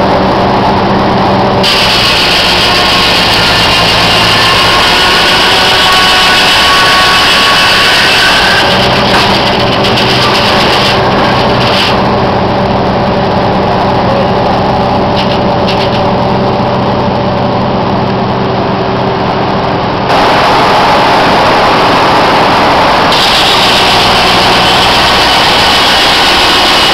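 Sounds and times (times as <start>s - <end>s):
sawmill blade droning: 0.0s - 26.9s.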